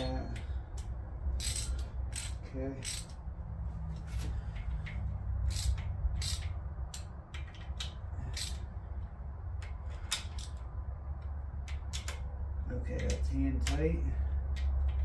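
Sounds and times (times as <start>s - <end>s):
hand ratchet clicking: 0.0s - 3.2s, 4.1s - 8.7s, 9.5s - 12.3s, 13.0s - 15.0s
steady low hum: 0.0s - 15.0s.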